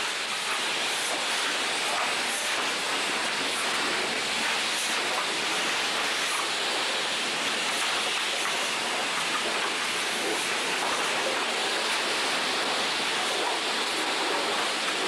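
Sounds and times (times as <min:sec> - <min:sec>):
high-pressure water spray hissing: 0:00.0 - 0:15.0.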